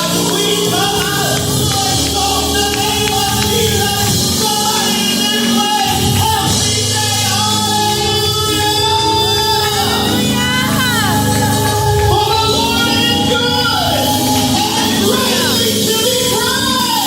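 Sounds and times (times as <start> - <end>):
instrumental backing: 0.0 - 17.0
voices singing church music: 0.0 - 17.0.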